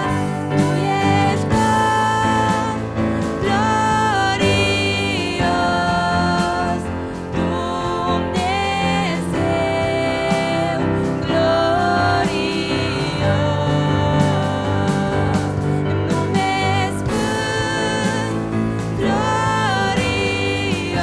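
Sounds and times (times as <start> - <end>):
electronic keyboard accompaniment: 0.0 - 21.0
two women singing in duet: 0.0 - 21.0.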